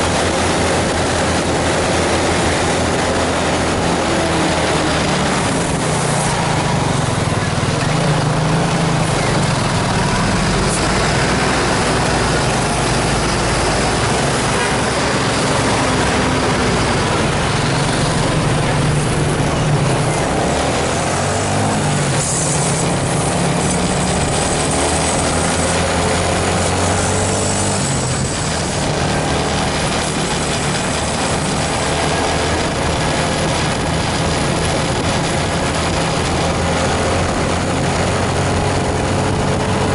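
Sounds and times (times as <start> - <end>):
bus diesel engine running: 0.0 - 39.9
road and tyre noise hiss: 0.0 - 39.9.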